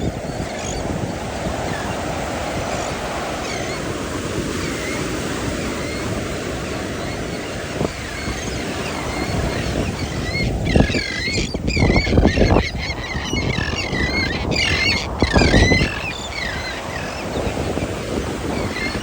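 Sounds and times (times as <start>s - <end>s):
flock of shorebirds calling: 0.0s - 19.0s.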